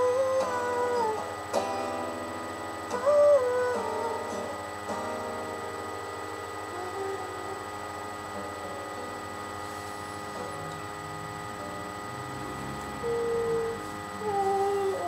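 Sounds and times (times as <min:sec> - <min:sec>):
electrical hum with high whine: 0:00.0 - 0:15.0
faint music: 0:00.0 - 0:15.0.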